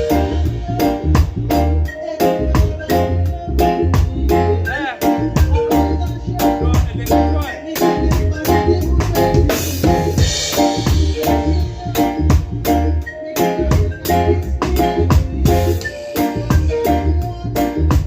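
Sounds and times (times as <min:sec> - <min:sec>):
reggae music: 0:00.0 - 0:18.0.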